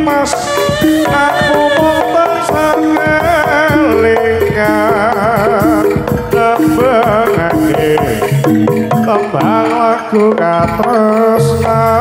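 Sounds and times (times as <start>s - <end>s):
drum strokes: 0.0s - 12.0s
held melodic notes: 0.0s - 12.0s
wavering melody with vibrato: 0.0s - 12.0s.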